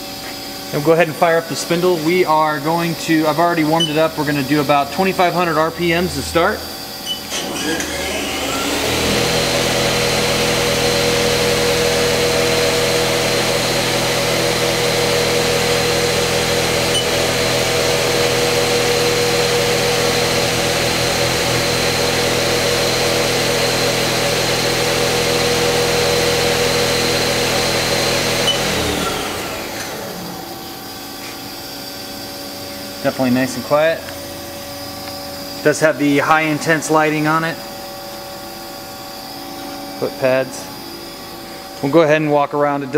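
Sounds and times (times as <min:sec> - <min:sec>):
lathe spindle whining: 0:00.0 - 0:42.2
machine hum: 0:00.0 - 0:42.9.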